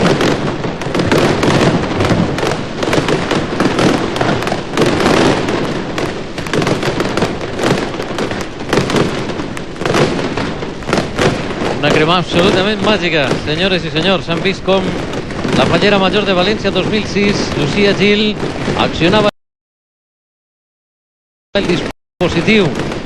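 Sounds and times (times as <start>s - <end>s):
fireworks bangs and crackling: 0.0s - 19.3s, 21.6s - 23.0s.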